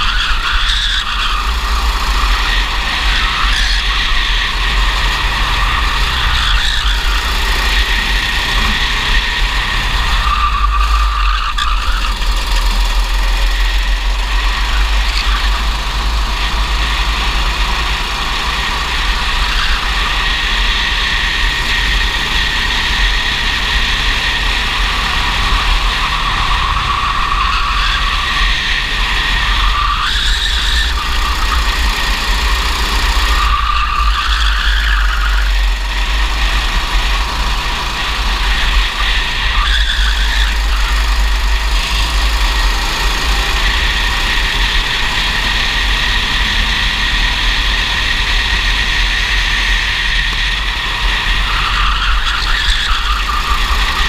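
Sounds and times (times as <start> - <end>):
racing kart engine running hard: 0.0 - 54.0.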